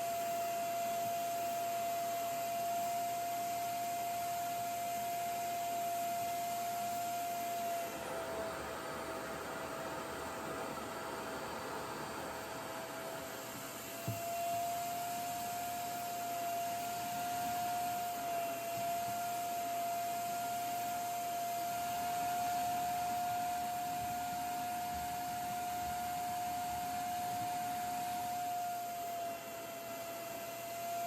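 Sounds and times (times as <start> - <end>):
hair dryer suction whine: 0.0 - 31.0.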